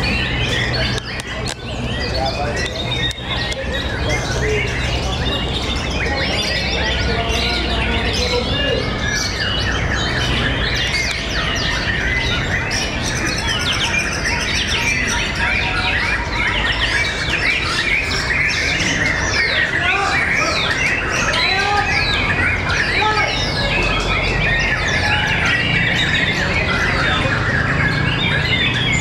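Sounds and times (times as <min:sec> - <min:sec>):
songbirds chorus of whistles and trills: 0:00.0 - 0:29.0.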